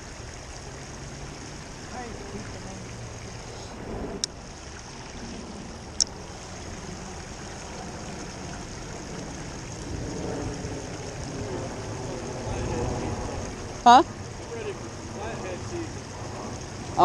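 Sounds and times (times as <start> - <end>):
creek running over rocks: 0.0 - 17.0
low wind rumble: 0.0 - 17.0.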